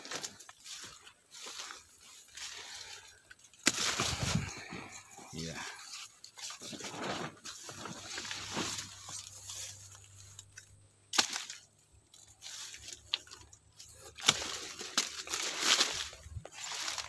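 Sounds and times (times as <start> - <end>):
leaves rustling and crunching: 0.0 - 17.0.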